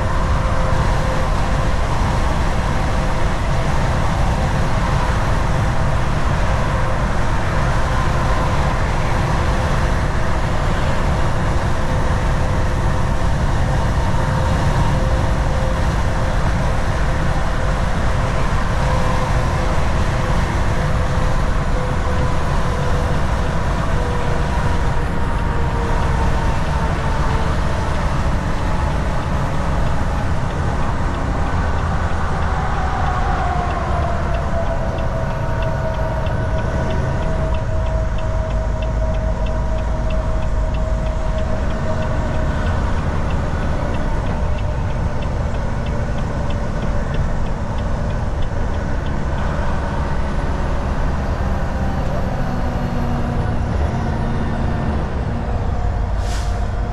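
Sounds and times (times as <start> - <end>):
truck engine and tyre rumble: 0.0 - 56.9.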